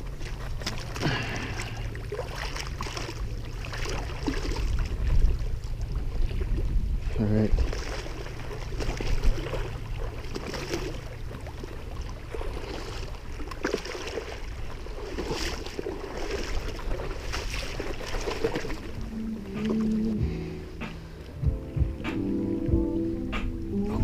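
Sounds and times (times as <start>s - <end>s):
shallow water splashing: 0.0s - 24.0s
wind rumble on microphone: 3.1s - 13.4s, 14.4s - 24.0s.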